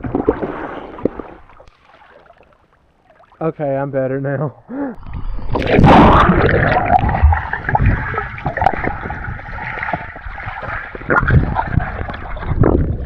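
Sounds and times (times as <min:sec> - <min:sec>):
pool water sloshing and splashing: 0:00.0 - 0:03.4, 0:05.6 - 0:13.0.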